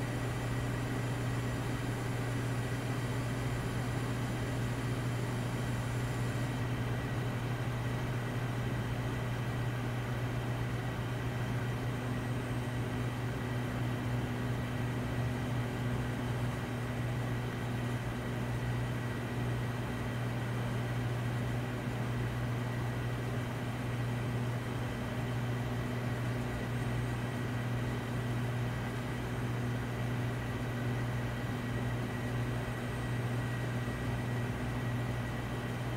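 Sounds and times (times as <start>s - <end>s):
low mechanical hum: 0.0s - 35.9s.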